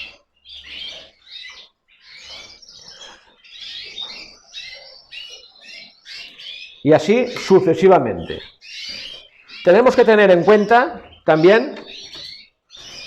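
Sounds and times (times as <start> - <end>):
canaries chirping and twittering: 0.0 - 13.0.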